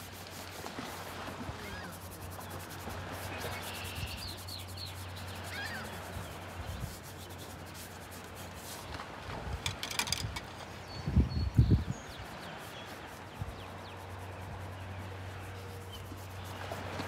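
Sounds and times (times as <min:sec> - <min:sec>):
brush scrubbing on paper: 0:00.0 - 0:09.0, 0:12.1 - 0:17.0.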